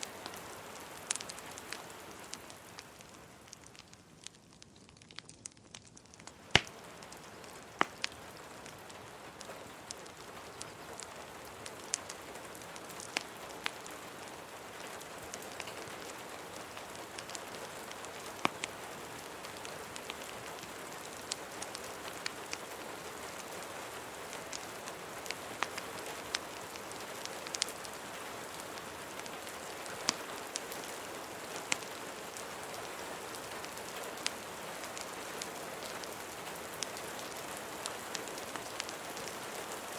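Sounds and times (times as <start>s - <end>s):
rain hiss: 0.0s - 4.5s, 6.2s - 39.9s
wood fire crackling: 0.0s - 39.9s.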